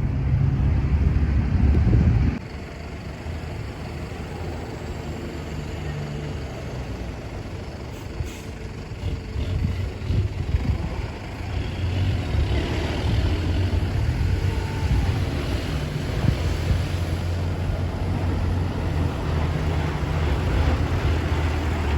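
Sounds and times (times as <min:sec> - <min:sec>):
dump truck diesel engine running: 0:00.0 - 0:21.9.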